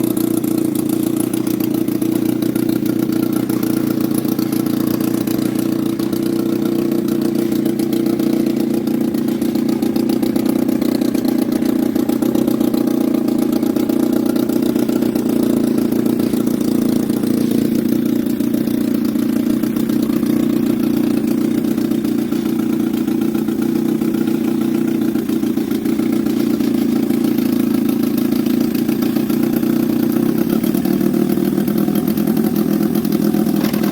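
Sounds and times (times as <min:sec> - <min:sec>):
outboard motor running: 0:00.0 - 0:33.9.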